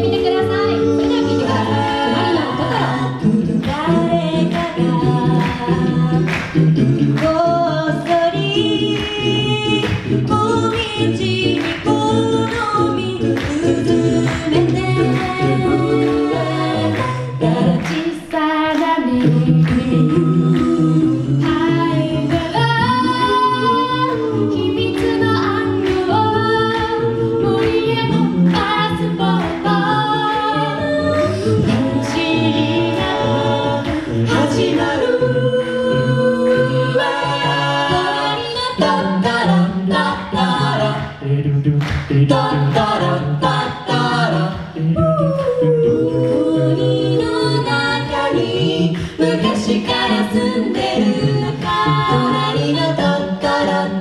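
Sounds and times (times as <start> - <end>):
a cappella group singing in harmony: 0.0 - 54.0
vocal percussion beat: 0.0 - 54.0.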